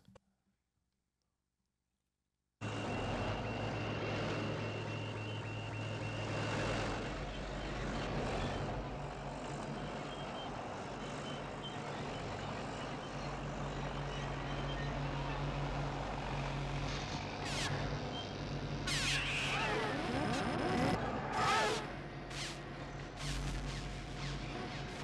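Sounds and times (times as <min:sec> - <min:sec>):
bulldozer engine running: 0:02.6 - 0:25.0.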